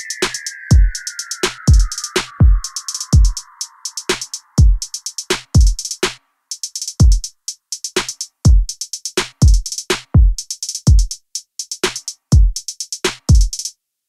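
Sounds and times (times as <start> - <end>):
drum machine beat: 0.0 - 13.7
crisp hi-hat ticks: 0.0 - 13.8.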